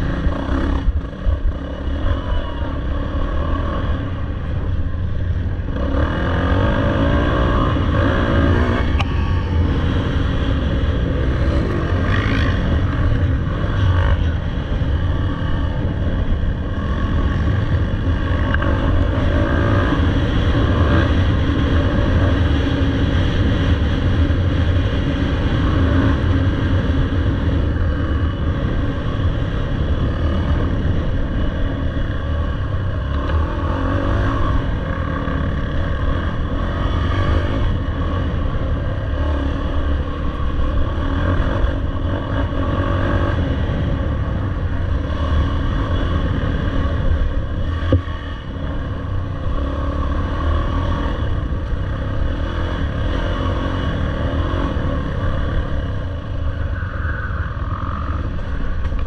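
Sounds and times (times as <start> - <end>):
dirt bike engine revving: 5.6 - 56.0.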